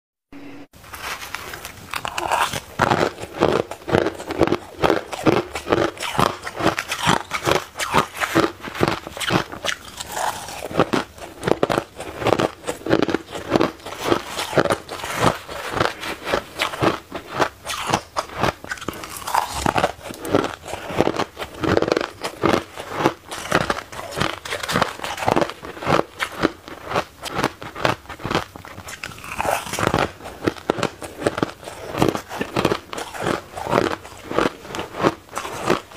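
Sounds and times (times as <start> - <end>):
person crunching ice: 1.0 - 35.9.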